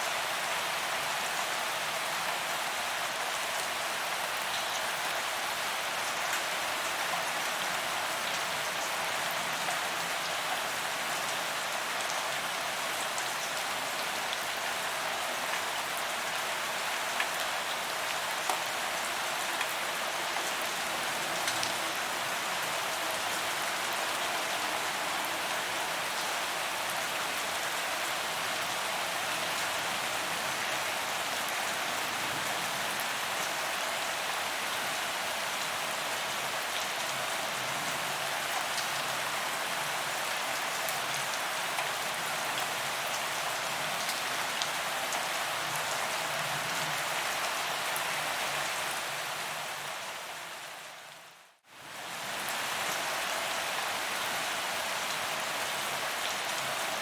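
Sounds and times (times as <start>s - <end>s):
rain falling on pavement: 0.0s - 57.0s.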